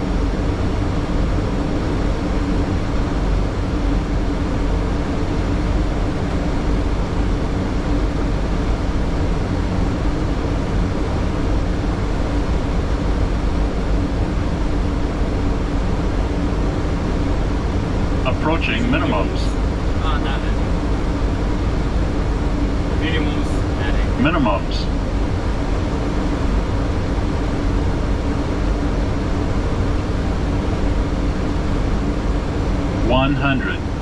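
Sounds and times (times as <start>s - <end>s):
aircraft cockpit rumble and hiss: 0.0s - 34.0s
faint steady hum: 0.0s - 34.0s.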